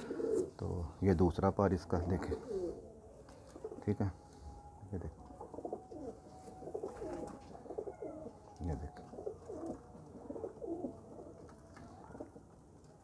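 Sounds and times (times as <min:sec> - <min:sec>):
pigeons cooing: 0:00.0 - 0:00.9, 0:01.8 - 0:04.2, 0:05.2 - 0:13.0.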